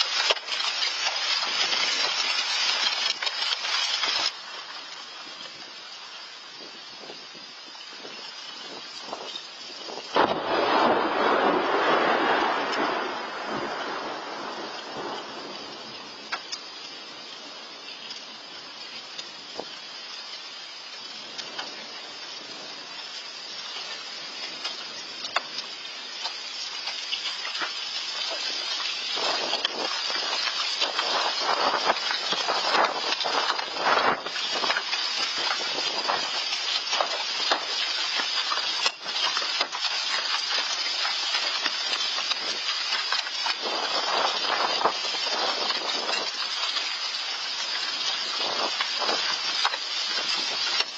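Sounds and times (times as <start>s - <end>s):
hailstone clicks and impacts: 0.0s - 5.7s, 8.1s - 17.0s, 23.0s - 50.9s
hail and rain falling: 0.0s - 50.9s.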